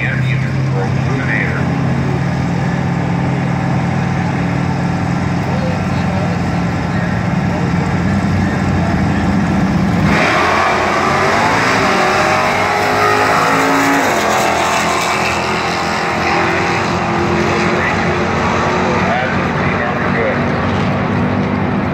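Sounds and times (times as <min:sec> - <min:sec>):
drag car engines revving: 0:00.0 - 0:21.9.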